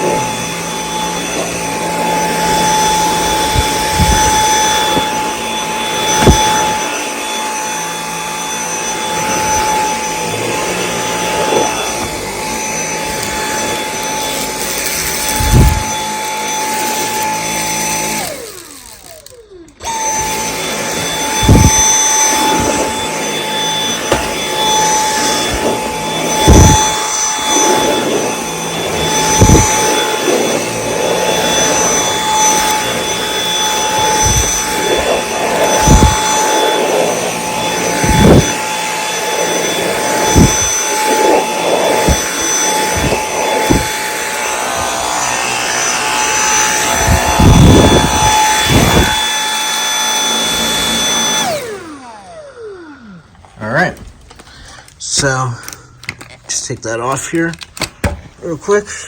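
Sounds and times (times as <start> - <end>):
vacuum cleaner high whine: 0.0 - 55.4.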